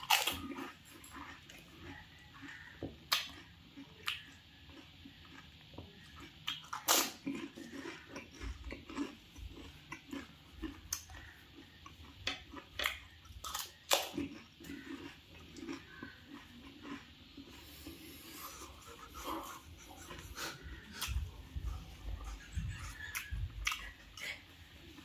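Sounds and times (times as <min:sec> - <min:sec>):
chewing crisp shells: 0:00.0 - 0:25.0.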